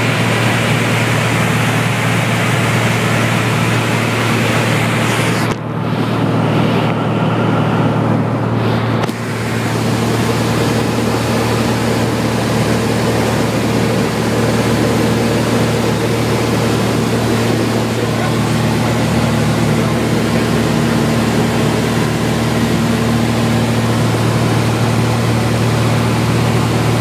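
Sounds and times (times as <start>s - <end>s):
airplane engine drone in cabin: 0.0s - 27.0s.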